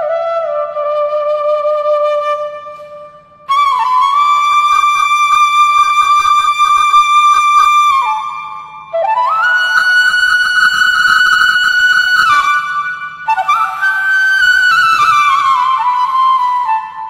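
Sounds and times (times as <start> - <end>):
solo flute: 0.0 - 17.0.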